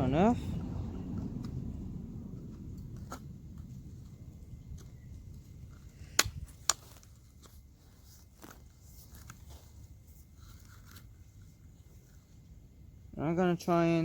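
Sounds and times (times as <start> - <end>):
handling noise: 0.0 - 12.5.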